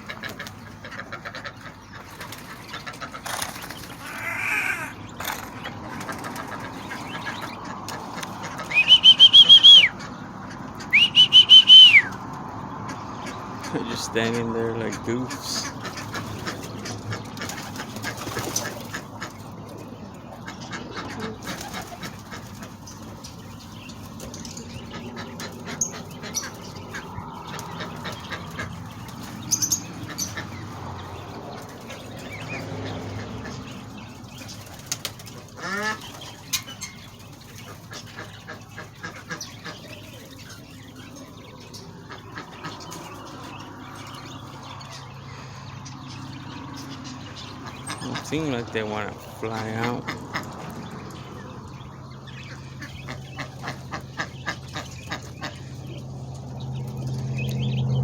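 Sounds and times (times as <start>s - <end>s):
ducks quacking: 0.0s - 58.0s
poultry and birds calling: 0.0s - 58.0s.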